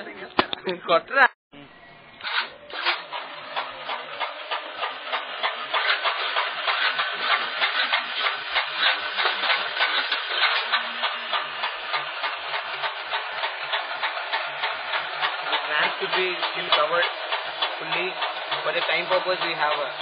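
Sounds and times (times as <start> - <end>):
spinning cutter discs rattling: 2.2 - 20.0.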